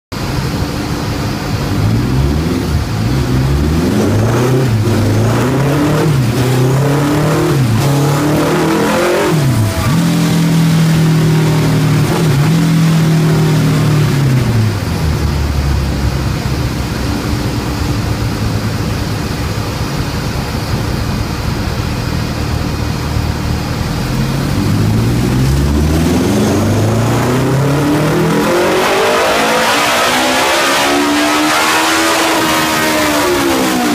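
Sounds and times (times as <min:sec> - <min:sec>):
motorcycle engine revving on dyno: 0:01.5 - 0:20.9, 0:21.8 - 0:33.9.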